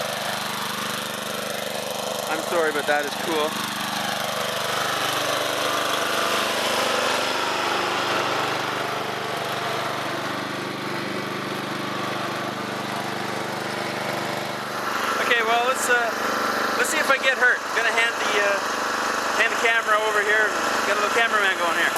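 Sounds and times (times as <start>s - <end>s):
lawn tractor engine idling: 0.0s - 21.9s.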